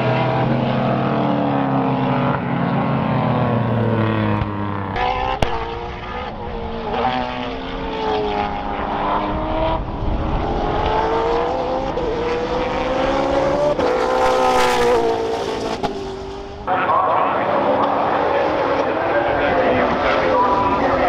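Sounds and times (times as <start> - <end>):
race cars accelerating past: 0.0 - 21.0.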